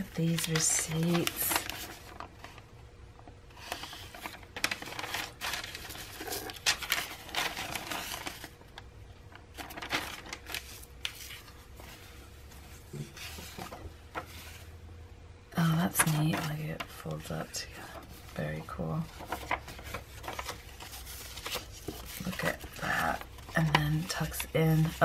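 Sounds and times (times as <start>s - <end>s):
paper rustling and crinkling: 0.0s - 2.7s, 3.5s - 14.7s, 15.7s - 25.0s.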